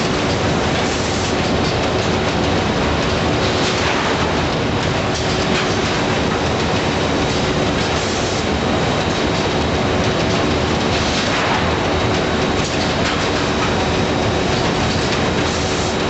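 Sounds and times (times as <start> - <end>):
bagging machine running: 0.0 - 16.0.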